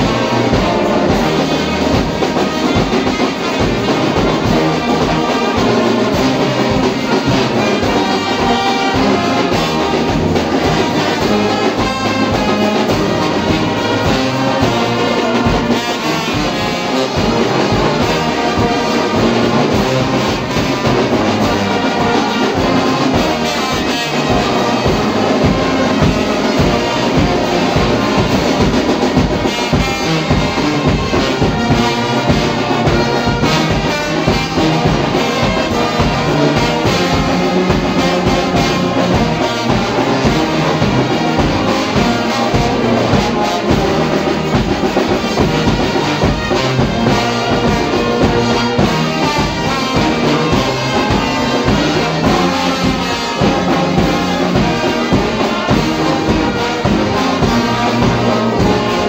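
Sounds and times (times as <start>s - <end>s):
brass band playing: 0.0s - 59.0s
drum steady beat: 0.0s - 59.0s.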